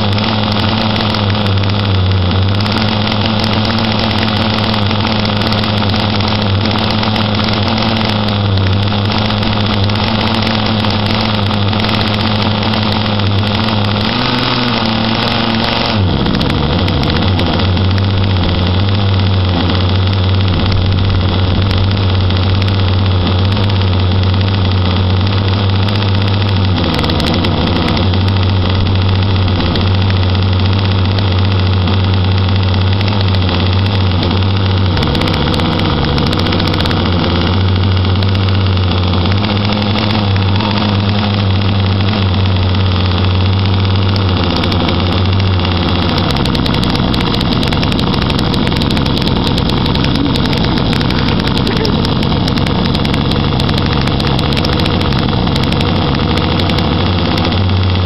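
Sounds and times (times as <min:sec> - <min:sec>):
two-stroke engine idling: 0:00.0 - 0:58.0.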